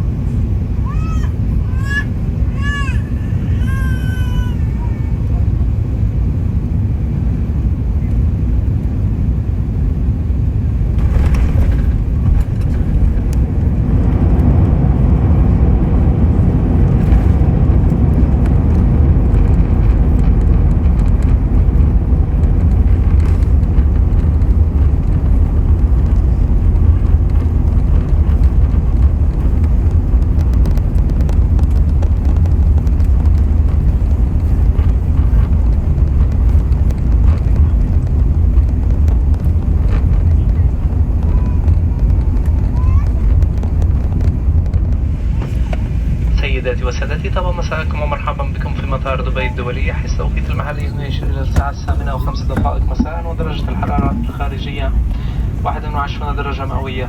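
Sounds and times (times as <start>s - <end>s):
low rumble inside aircraft cabin: 0.0s - 57.0s.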